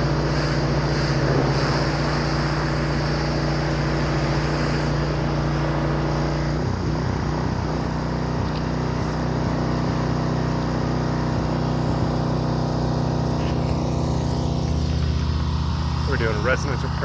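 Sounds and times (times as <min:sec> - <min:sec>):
pressure washer engine running: 0:00.0 - 0:17.0.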